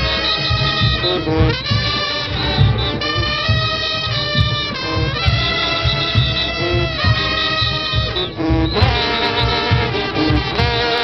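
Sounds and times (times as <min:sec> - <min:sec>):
brass band playing chords: 0:00.0 - 0:11.0.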